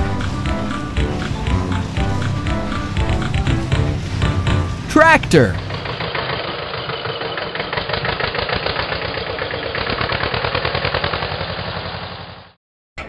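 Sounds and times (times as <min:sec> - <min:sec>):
tractor engine running: 0:00.0 - 0:12.4.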